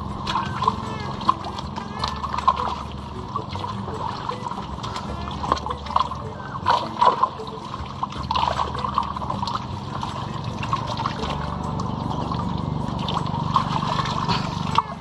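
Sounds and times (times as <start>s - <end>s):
fish thrashing at the surface: 0.0s - 15.0s
steady low hum: 0.0s - 15.0s
water splashing and trickling: 0.0s - 15.0s.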